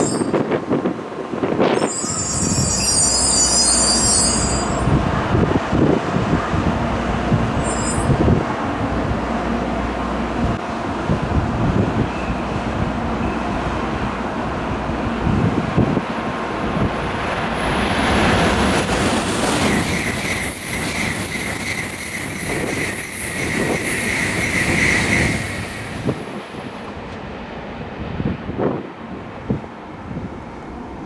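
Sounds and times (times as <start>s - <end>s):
high-speed train passing: 0.0s - 31.0s.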